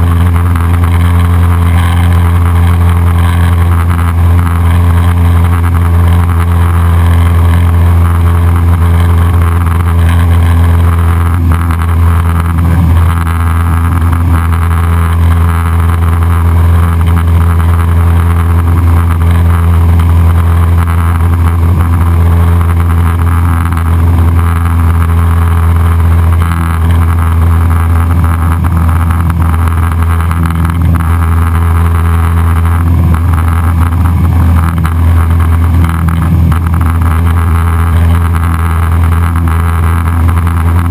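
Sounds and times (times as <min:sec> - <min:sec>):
propeller plane engine drone: 0:00.0 - 0:40.9.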